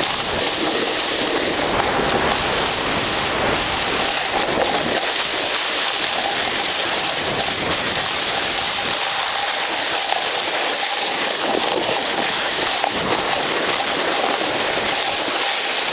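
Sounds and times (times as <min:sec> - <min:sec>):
sliding on snow hiss: 0:00.0 - 0:15.9.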